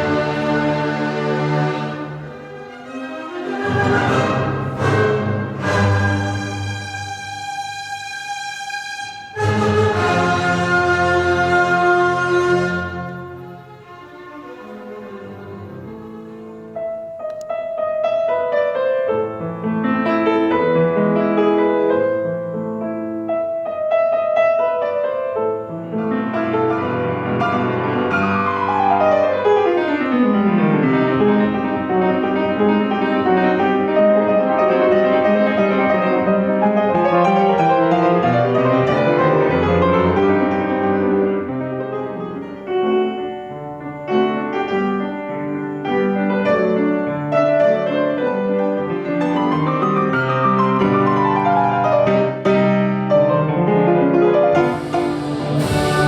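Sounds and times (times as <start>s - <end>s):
solo piano classical music: 0.0s - 56.0s.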